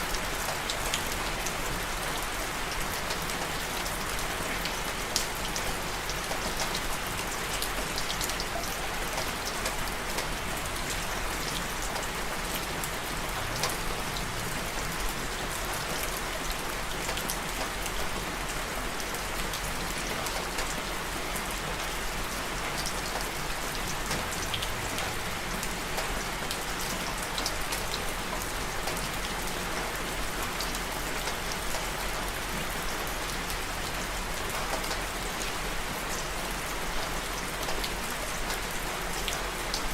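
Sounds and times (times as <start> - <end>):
raindrops ticking on a surface: 0.0 - 39.9
steady rain falling: 0.0 - 39.9.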